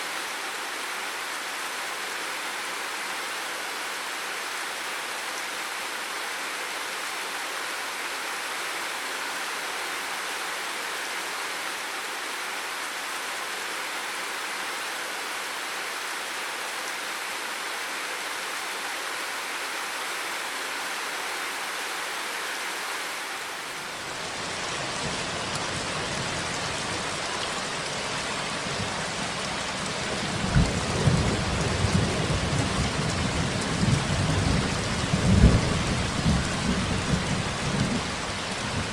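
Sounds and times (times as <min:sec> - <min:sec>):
rain: 0:00.0 - 0:38.9.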